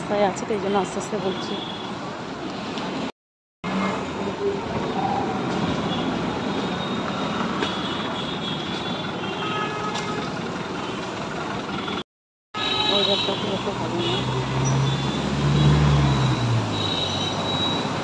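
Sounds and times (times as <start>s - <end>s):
street traffic hum: 0.0s - 18.0s.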